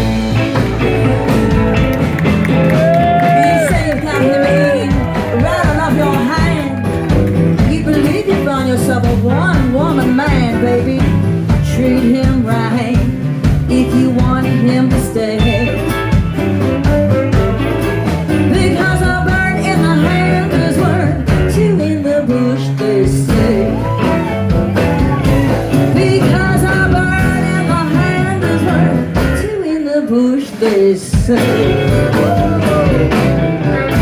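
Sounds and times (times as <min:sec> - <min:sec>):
lead guitar bending notes: 0:00.0 - 0:29.5, 0:31.4 - 0:34.0
live blues band playing: 0:00.0 - 0:34.0.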